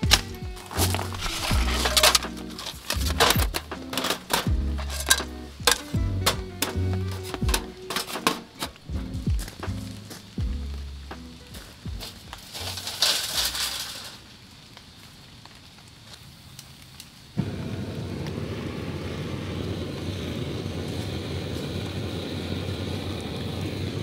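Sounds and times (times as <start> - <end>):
gas torch roaring hiss: 0.0 - 24.0.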